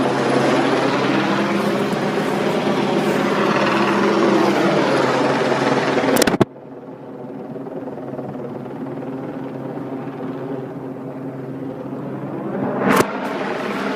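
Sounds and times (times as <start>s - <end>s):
helicopter rotor drone: 0.0s - 13.9s.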